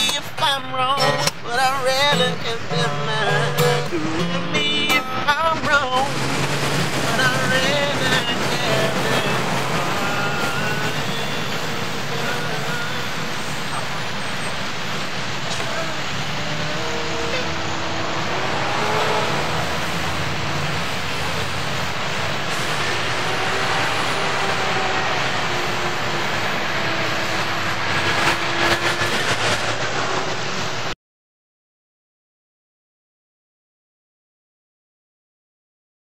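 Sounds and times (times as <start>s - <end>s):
city traffic noise: 0.0s - 31.0s.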